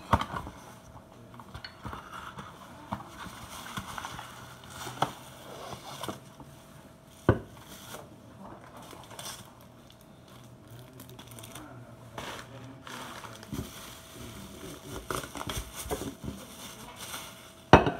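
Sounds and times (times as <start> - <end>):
cardboard and plastic rustling: 0.0 - 17.8.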